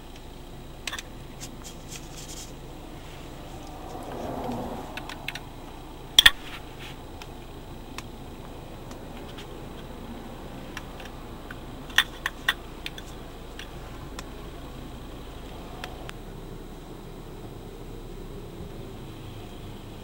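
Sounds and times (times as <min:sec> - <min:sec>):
low hiss inside a car: 0:00.0 - 0:20.0.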